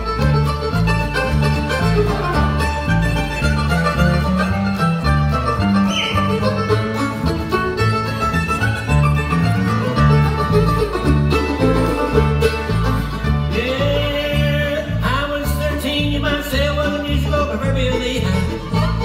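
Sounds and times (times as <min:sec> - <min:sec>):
acoustic guitar: 0:00.0 - 0:19.0
fiddle: 0:00.0 - 0:19.0
mandolin: 0:00.0 - 0:19.0
upright bass: 0:00.0 - 0:19.0.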